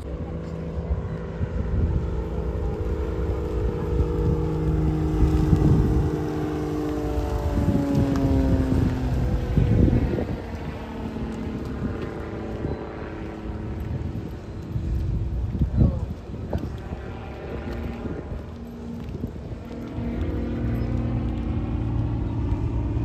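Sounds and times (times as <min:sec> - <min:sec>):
aircraft engine passing by: 0:00.0 - 0:23.0
wind buffeting microphone: 0:00.0 - 0:23.0.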